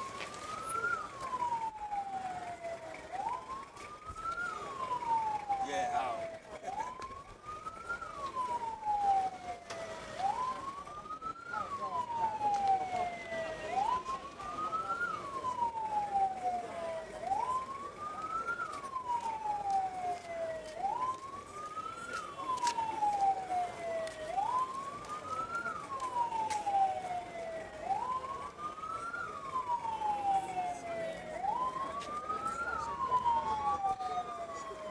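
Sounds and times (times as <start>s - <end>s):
emergency siren wailing: 0.0s - 34.9s.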